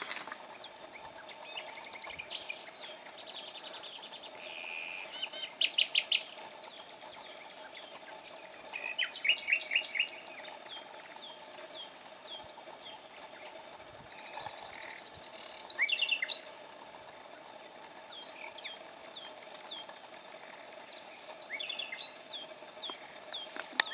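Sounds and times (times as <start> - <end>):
faint steady hum: 0.0 - 23.9
songbird singing repeated notes: 0.0 - 23.9.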